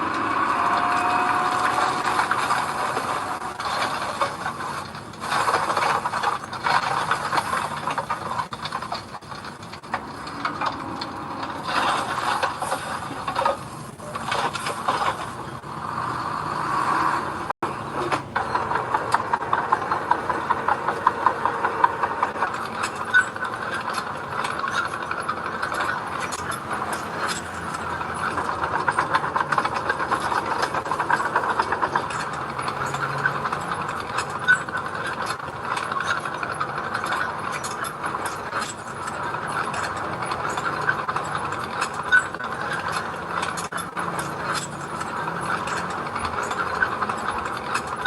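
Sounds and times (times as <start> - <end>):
construction machinery engine: 0.0 - 48.0
gravel rattling and scraping: 0.0 - 48.0.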